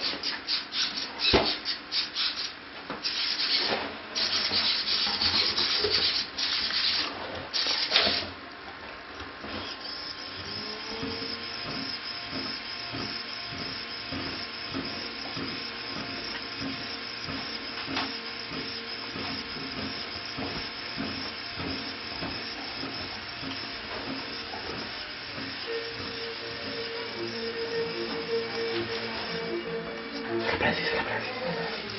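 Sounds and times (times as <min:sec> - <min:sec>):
faint motor hum: 0:00.0 - 0:31.9
small fan blowing air: 0:00.0 - 0:31.9.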